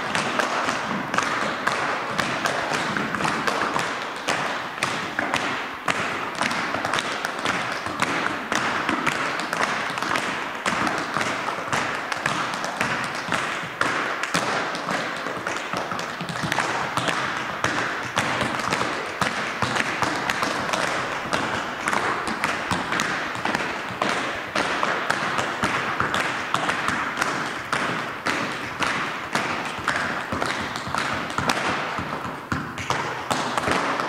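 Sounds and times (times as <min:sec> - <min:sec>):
tap shoes on hardwood floor: 0:00.0 - 0:34.0.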